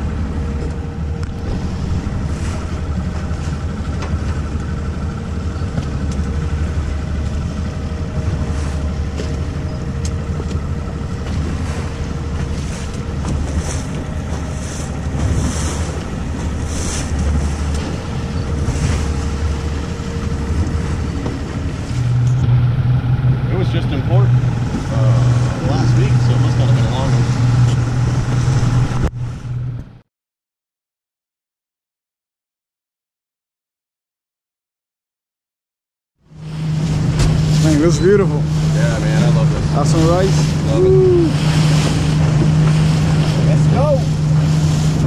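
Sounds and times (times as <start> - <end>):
rushing water: 0.0 - 29.2, 36.3 - 45.0
boat engine droning: 0.0 - 30.0, 36.2 - 45.0
wind on microphone: 0.0 - 30.0, 36.4 - 45.0.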